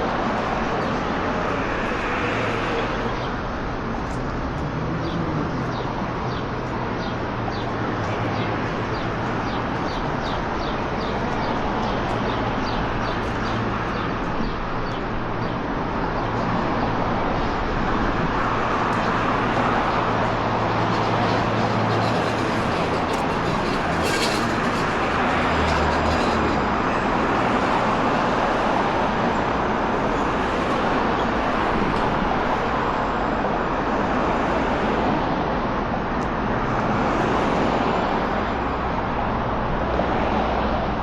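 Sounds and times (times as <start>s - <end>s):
street traffic: 0.0s - 41.0s.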